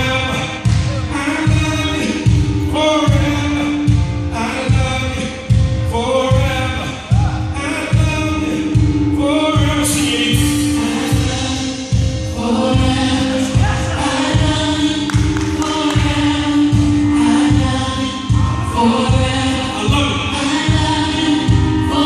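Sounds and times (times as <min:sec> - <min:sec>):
band with heavy bass beat: 0:00.0 - 0:22.0
vocal group singing in harmony: 0:00.0 - 0:22.0.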